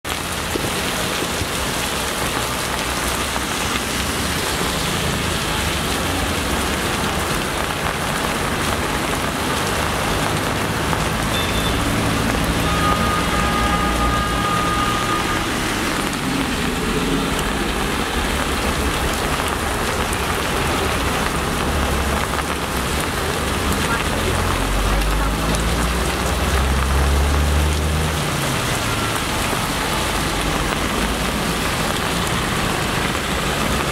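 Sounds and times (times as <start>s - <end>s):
heavy rain on a wet road: 0.0s - 33.9s
traffic driving through water: 0.1s - 33.9s.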